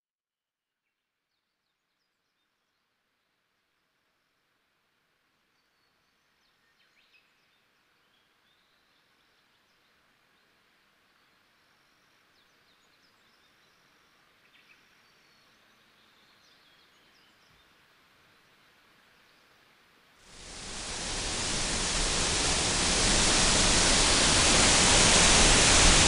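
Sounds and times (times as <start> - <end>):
faint outdoor ambience hiss: 0.7 - 26.0.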